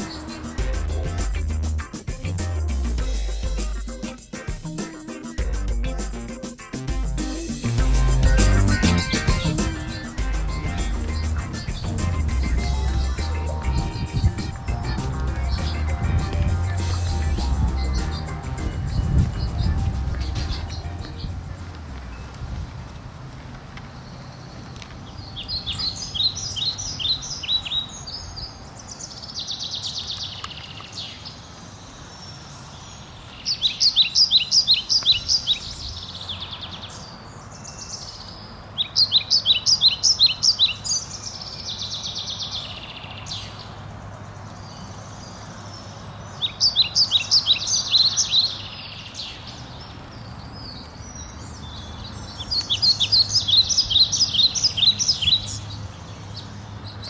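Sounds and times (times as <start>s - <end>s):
songbird singing: 0.0s - 23.1s, 23.8s - 57.0s.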